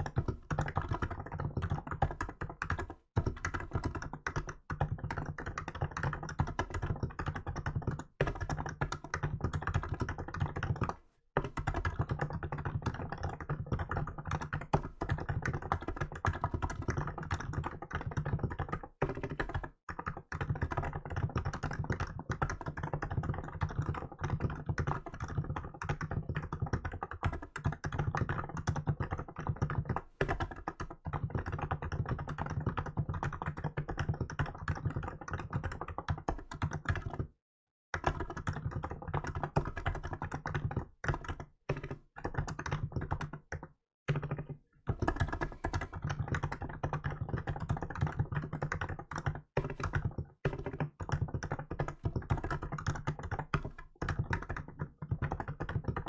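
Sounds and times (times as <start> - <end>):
fast keyboard typing: 0.0 - 37.3, 38.0 - 56.0.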